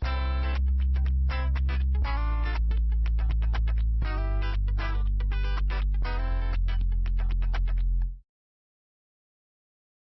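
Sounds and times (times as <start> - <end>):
heavy bass: 0.0 - 8.2
plucked guitar notes: 0.0 - 8.2.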